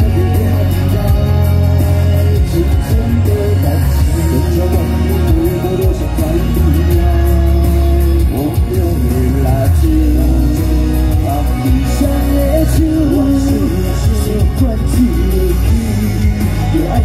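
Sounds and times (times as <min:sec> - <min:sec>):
live pop song through pa: 0:00.0 - 0:17.0
man singing: 0:00.0 - 0:17.0.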